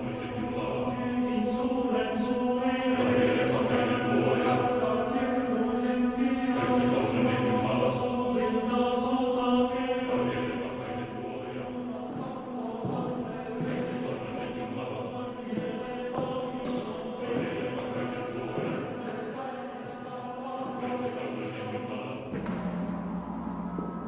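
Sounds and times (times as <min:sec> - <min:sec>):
choir singing long held notes: 0:00.0 - 0:24.0.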